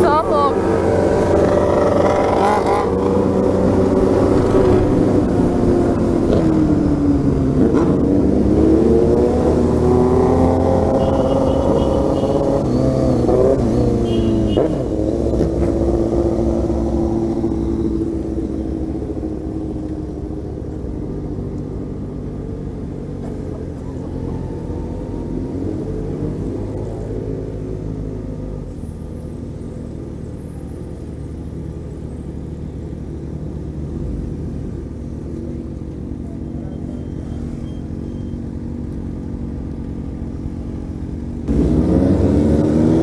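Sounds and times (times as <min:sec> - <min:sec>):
motorcycle engine revving: 0:00.0 - 0:28.7, 0:35.8 - 0:43.0.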